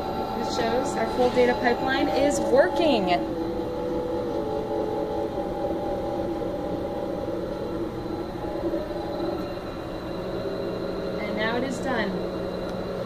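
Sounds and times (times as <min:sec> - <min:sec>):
electric motor whine: 0:00.0 - 0:13.0
low rumble: 0:00.0 - 0:13.0.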